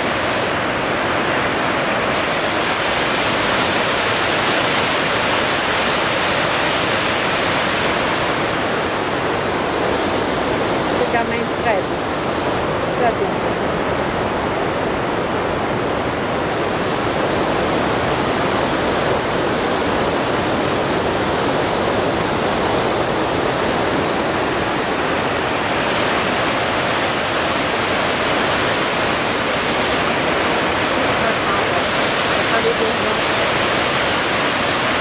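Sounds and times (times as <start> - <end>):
river rushing through rapids: 0.0 - 35.0.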